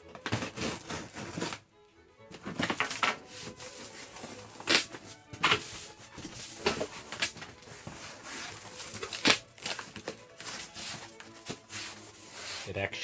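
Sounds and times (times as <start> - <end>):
cardboard flaps scraping and rustling: 0.2 - 1.6, 2.4 - 12.8.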